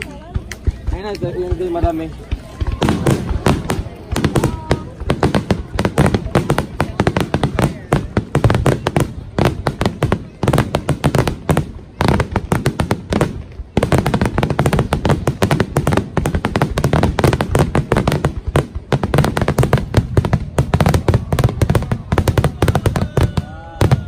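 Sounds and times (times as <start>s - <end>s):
fireworks crackling: 0.0s - 24.0s
fireworks low booms: 0.0s - 24.0s.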